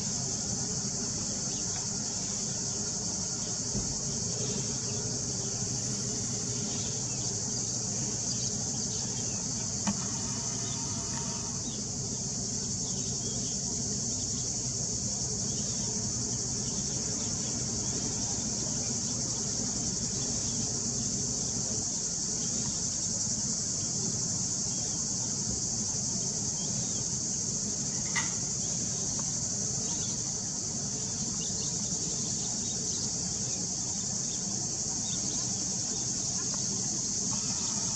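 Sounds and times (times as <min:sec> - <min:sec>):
cicadas shrilling: 0:00.0 - 0:37.9.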